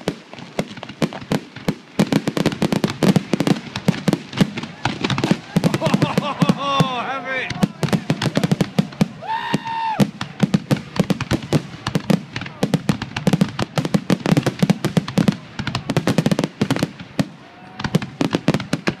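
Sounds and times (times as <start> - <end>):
fireworks crackling bangs: 0.0 - 19.0.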